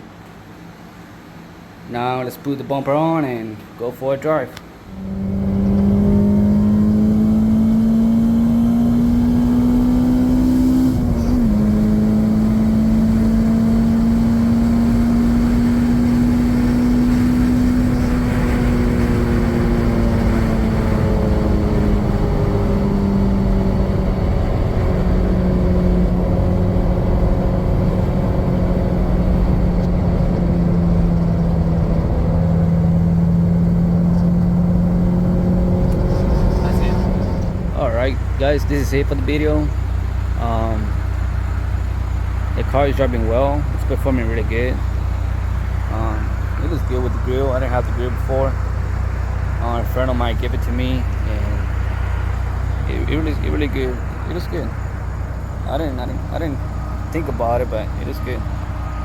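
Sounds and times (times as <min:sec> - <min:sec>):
car engine droning while driving: 0:04.7 - 0:59.0.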